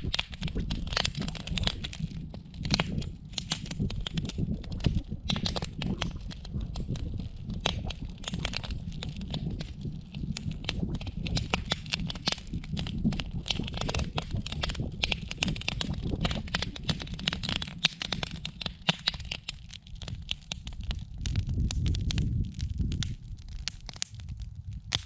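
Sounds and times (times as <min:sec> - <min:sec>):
low rumble: 0:00.0 - 0:18.8, 0:19.4 - 0:25.0
campfire crackling and popping: 0:00.0 - 0:25.0.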